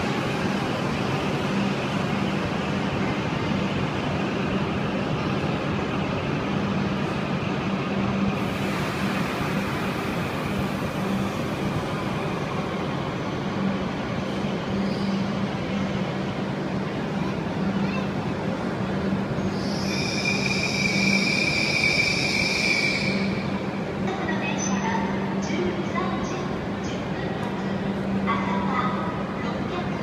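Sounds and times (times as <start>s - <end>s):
train rumbling in station: 0.0s - 30.0s.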